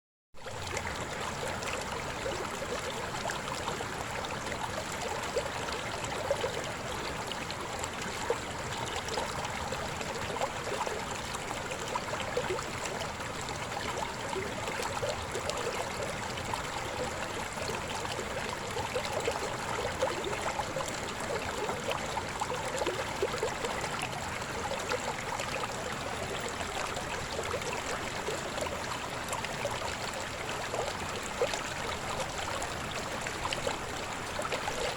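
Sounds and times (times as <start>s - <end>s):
shallow river babbling over stones: 0.4s - 34.9s.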